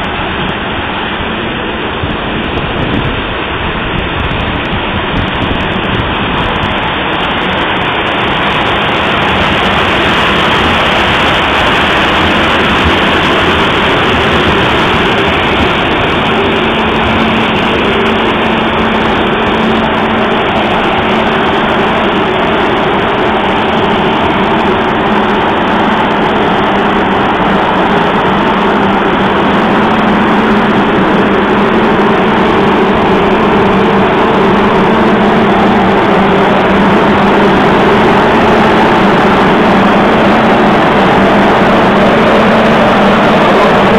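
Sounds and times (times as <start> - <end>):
fans rushing air: 0.0 - 43.9
low steady hum: 0.0 - 43.9.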